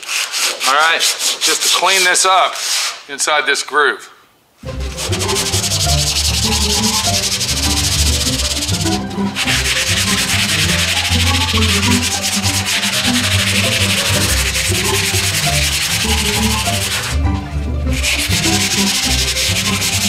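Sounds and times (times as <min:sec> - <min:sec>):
sandpaper rubbing by hand: 0:00.0 - 0:03.1, 0:04.8 - 0:17.2, 0:17.9 - 0:20.0.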